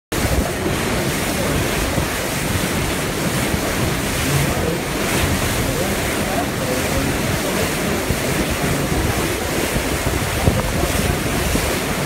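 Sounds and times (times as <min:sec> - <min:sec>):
water rushing past boat: 0:00.1 - 0:12.0
wind buffeting microphone: 0:00.1 - 0:12.0.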